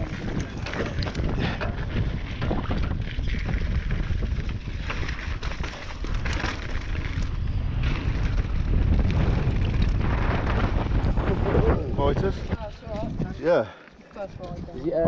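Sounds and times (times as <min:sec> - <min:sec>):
bike knocks and rattles: 0:00.0 - 0:12.2
wind buffeting microphone: 0:00.0 - 0:15.0.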